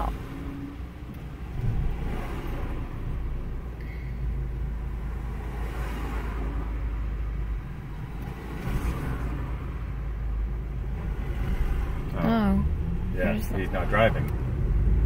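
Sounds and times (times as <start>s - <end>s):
cars passing close by: 0.0s - 15.0s.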